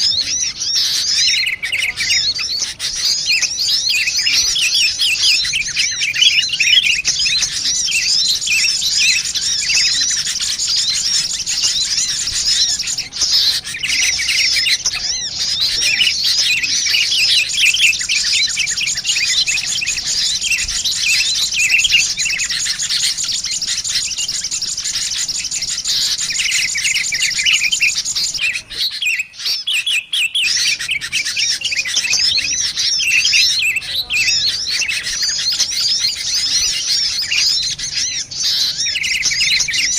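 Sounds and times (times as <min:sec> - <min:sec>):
bulbul calls: 0:00.0 - 0:39.9
sunbirds chattering: 0:00.0 - 0:39.9.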